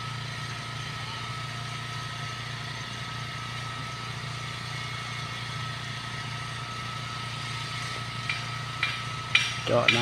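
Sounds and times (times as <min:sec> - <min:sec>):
generator engine droning: 0:00.0 - 0:10.0.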